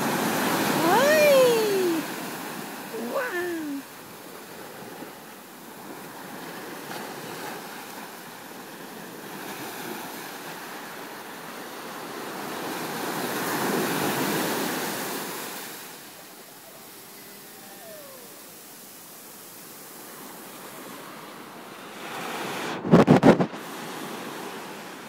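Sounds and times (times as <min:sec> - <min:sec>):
small waves breaking on shore: 0:00.0 - 0:25.0.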